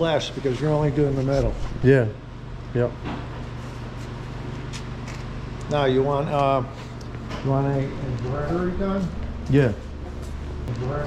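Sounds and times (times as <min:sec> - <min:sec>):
room noise hum: 0:00.0 - 0:11.0.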